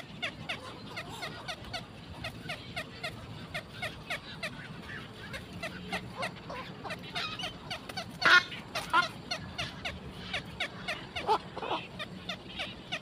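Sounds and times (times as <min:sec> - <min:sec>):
harsh bird squawk: 0:00.0 - 0:13.0.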